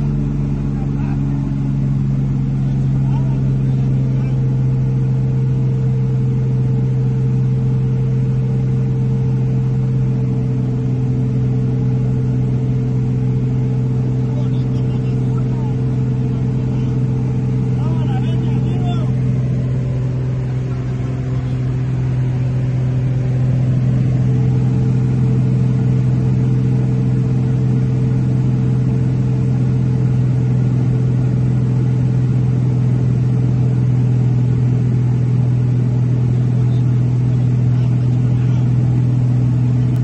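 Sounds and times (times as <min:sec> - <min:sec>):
light aircraft engine drone: 0:00.0 - 0:40.0.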